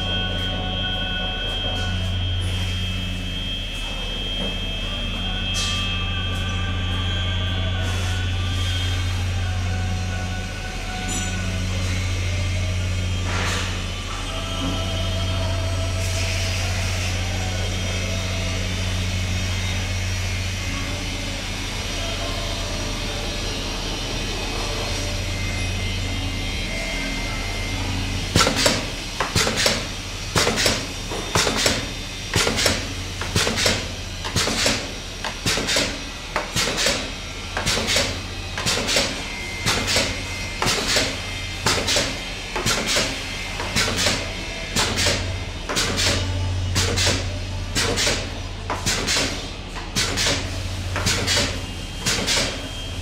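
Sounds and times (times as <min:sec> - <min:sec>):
machine humming: 0:00.0 - 0:53.0.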